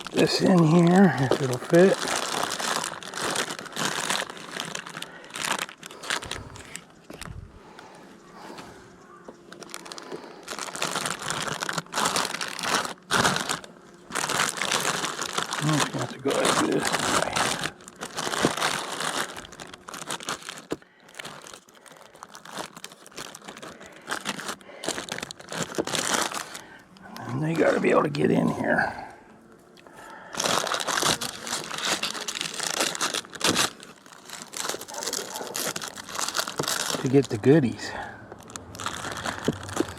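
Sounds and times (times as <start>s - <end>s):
packaging crinkling and rustling: 0.0s - 28.8s, 30.1s - 39.9s.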